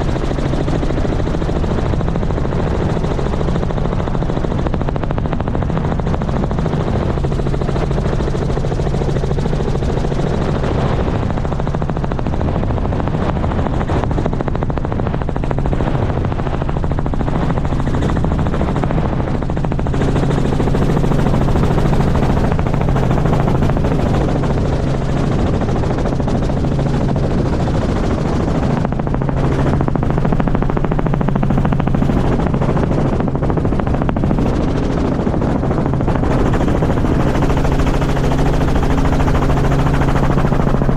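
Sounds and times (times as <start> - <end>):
helicopter rotor beating: 0.0 - 40.9
low engine hum: 0.0 - 40.9.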